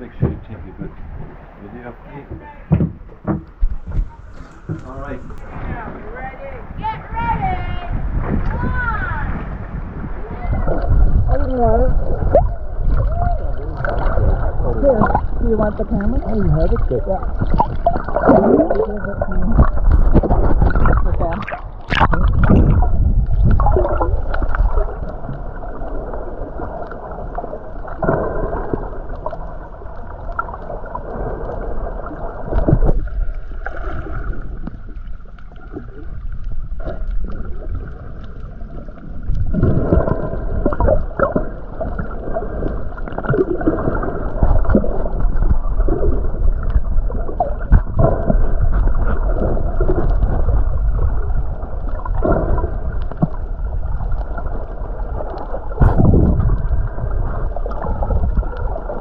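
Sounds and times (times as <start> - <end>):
low rumble: 0.0 - 59.0
water gurgling and sloshing: 0.0 - 59.0.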